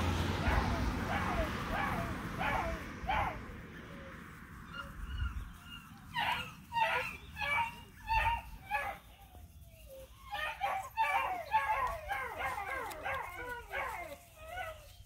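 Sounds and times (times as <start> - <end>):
dogs barking and yelping: 0.0 - 15.0.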